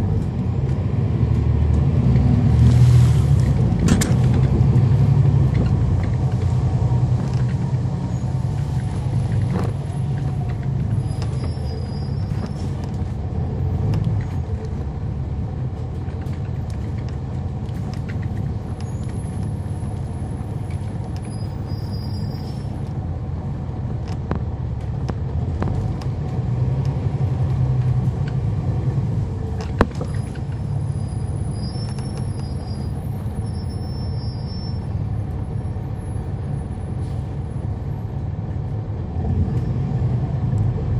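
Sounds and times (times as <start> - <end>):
bus diesel engine rumble: 0.0 - 40.9.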